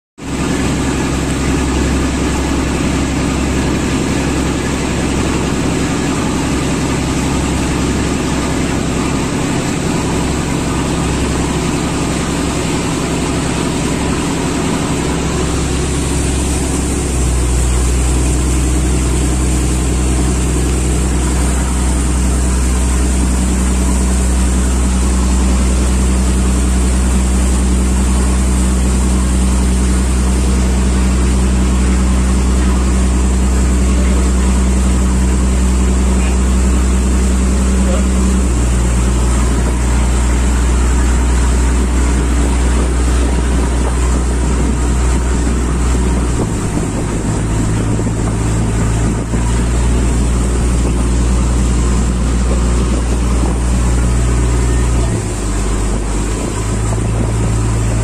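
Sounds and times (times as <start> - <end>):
boat engine running: 0.2 - 58.0.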